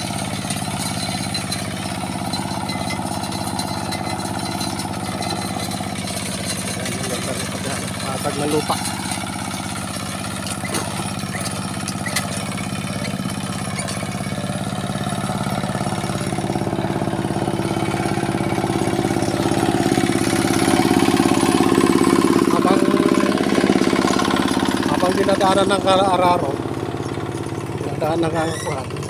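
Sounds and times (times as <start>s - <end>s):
hand tractor diesel engine: 0.0s - 29.0s.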